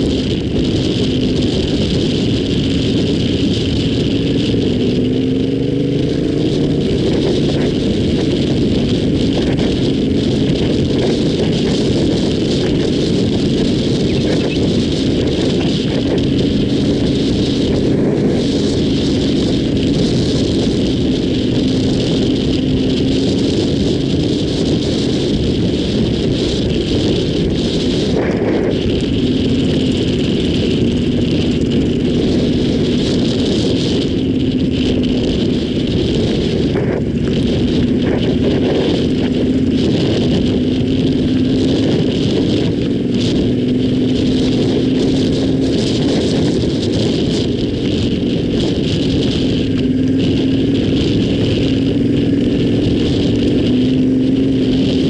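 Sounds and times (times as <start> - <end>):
motorcycle engine running: 0.0 - 55.0
wind rushing: 0.0 - 55.0.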